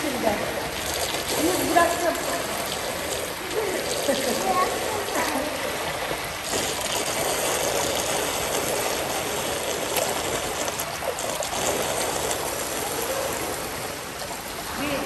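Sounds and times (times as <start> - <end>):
water pouring into pool: 0.0 - 15.0.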